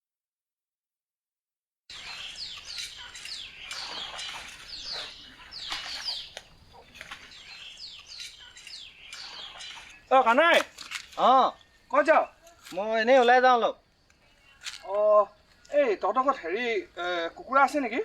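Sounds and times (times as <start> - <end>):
small birds chirping: 1.9 - 18.0.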